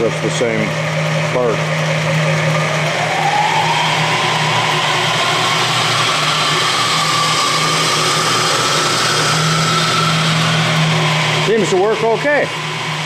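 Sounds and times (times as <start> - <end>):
milling machine motor hum: 0.0 - 13.0
pulley drive whine rising: 0.0 - 13.0.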